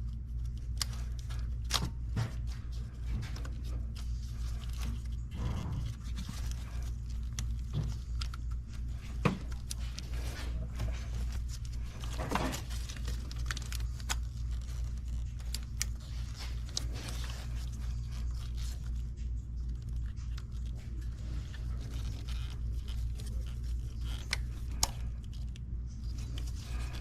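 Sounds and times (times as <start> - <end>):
steady low hum: 0.0 - 27.0
scraping and rustling: 0.8 - 27.0.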